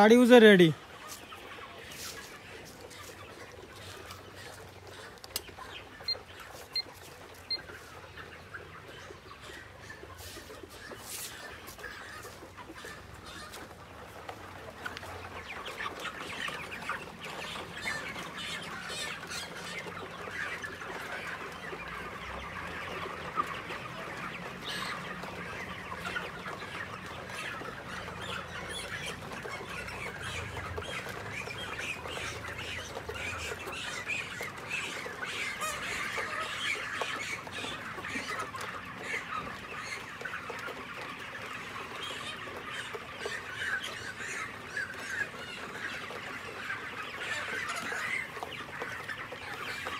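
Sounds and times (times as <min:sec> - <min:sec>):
flock of chickens calling: 0:00.0 - 0:49.9.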